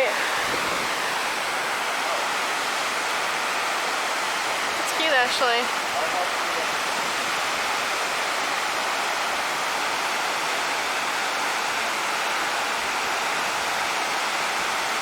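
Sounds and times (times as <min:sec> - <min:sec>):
rushing waterfall: 0:00.0 - 0:15.0.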